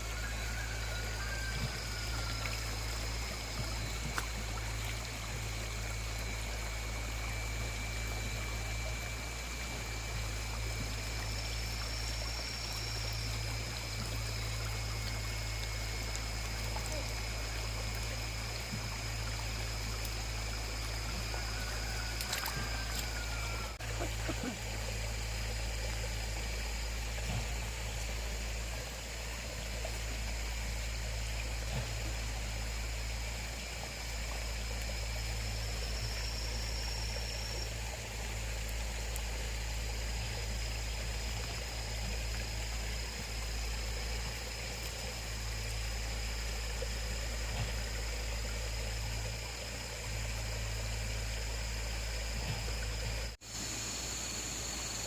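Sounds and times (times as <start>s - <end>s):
water trickling: 0.0s - 53.4s.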